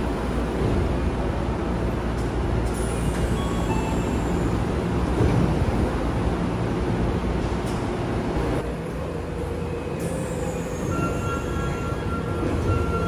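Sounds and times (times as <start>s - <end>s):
station and train hum: 0.0s - 13.0s
train doors opening and closing: 0.0s - 13.0s.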